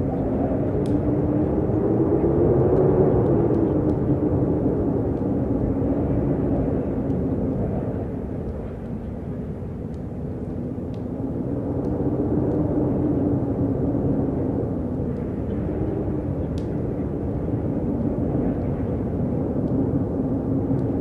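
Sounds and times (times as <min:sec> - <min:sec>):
wind blowing in gusts: 0:00.0 - 0:21.0.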